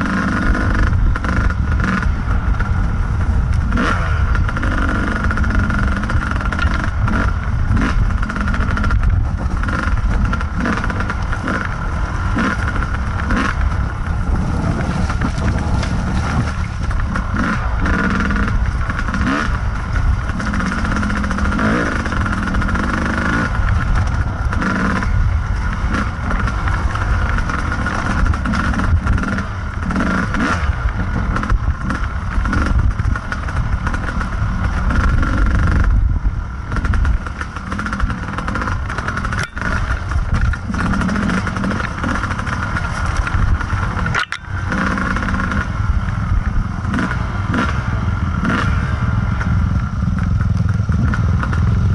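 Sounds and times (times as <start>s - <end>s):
motorcycle engine revving: 0.0s - 51.9s
bike rattling over rocks: 3.8s - 35.9s, 36.7s - 47.6s.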